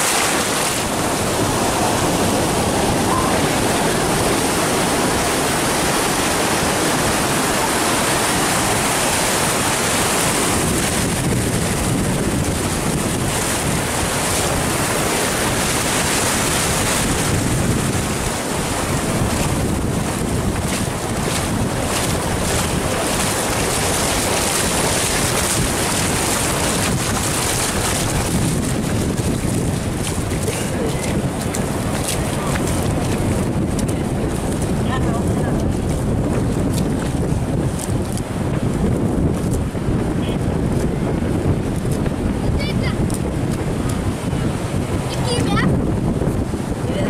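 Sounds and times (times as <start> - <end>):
surf washing on beach: 0.0 - 47.0
wind on microphone: 0.0 - 47.0.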